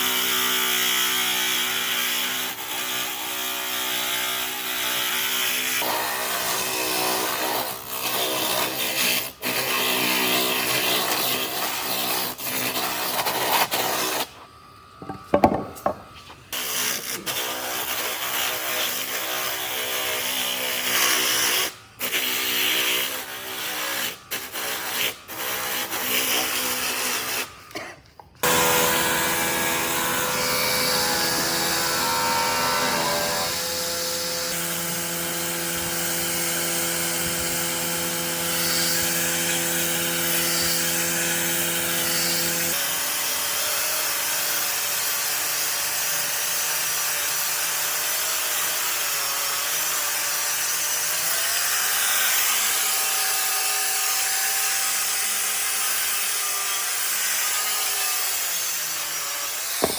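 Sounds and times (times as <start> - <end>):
electric power tool cutting wood: 0.0 - 14.4, 15.0 - 27.8, 28.4 - 59.9.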